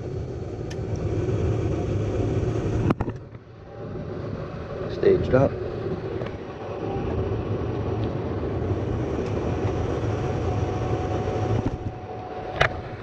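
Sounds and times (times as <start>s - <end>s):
gas furnace rumbling: 0.0s - 13.0s.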